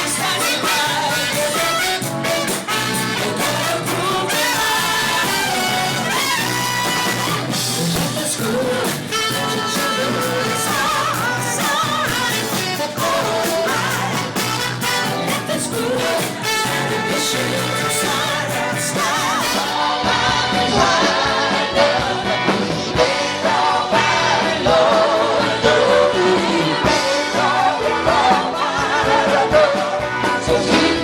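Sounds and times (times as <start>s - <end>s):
live band playing: 0.0s - 31.0s
person singing: 0.0s - 31.0s.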